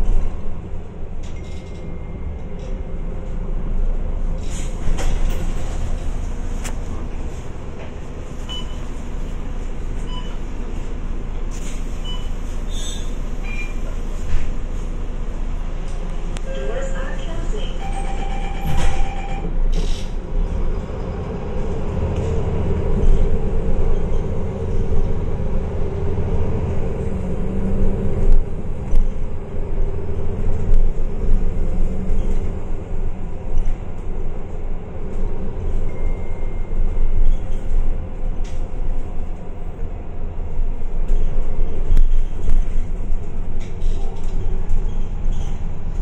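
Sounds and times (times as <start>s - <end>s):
bus diesel engine: 0.0s - 46.0s
road rumble: 0.0s - 46.0s.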